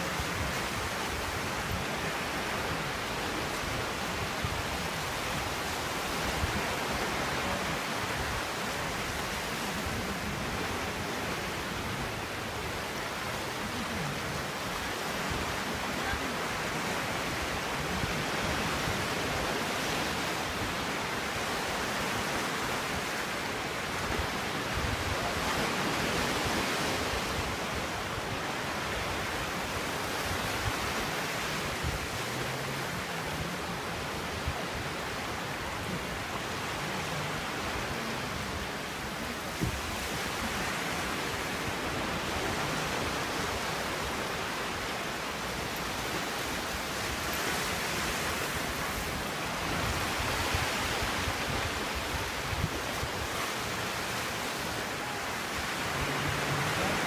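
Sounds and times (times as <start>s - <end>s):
waves washing on rocky shore: 0.0s - 57.0s.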